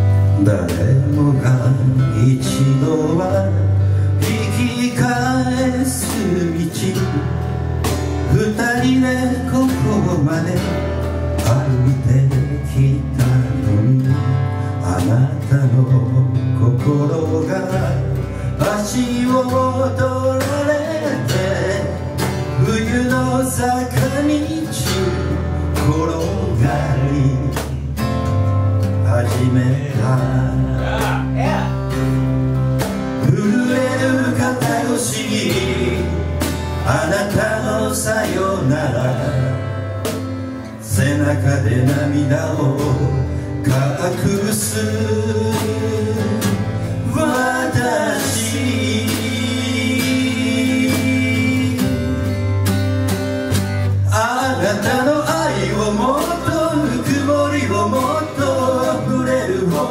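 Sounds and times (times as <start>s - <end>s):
strummed acoustic guitar: 0.0s - 59.9s
man singing into a microphone: 0.1s - 7.5s, 8.3s - 28.0s, 28.8s - 32.0s, 33.2s - 39.8s, 40.8s - 52.5s, 53.9s - 59.9s.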